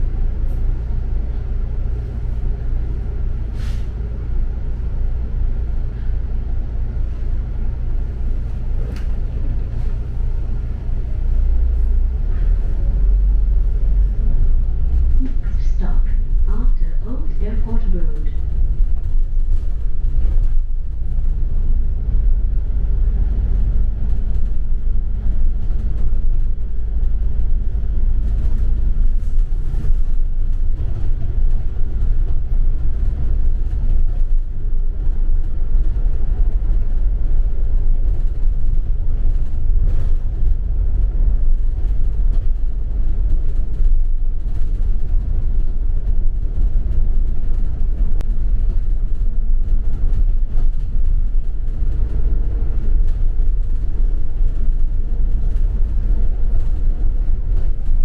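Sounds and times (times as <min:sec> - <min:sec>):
bus driving rumble: 0:00.0 - 0:58.0
low engine hum: 0:00.0 - 0:58.0.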